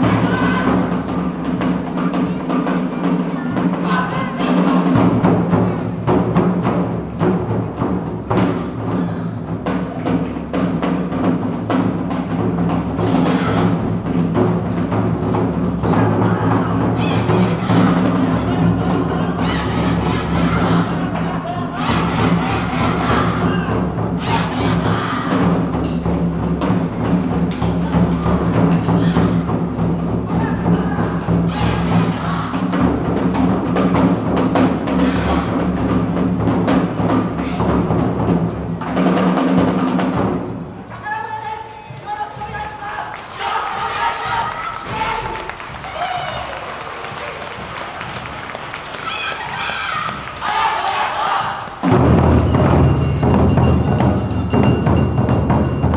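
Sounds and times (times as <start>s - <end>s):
taiko drums beating: 0.0s - 40.9s, 41.9s - 55.9s
clacking percussion: 0.0s - 55.9s.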